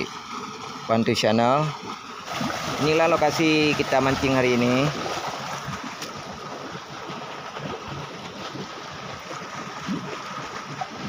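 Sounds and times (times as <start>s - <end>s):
water rushing down a channel: 0.0s - 11.0s.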